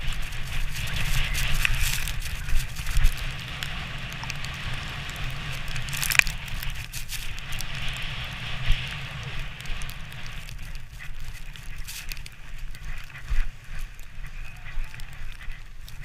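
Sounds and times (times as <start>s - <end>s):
sledge runners hissing over snow: 0.0s - 5.9s, 6.7s - 16.0s.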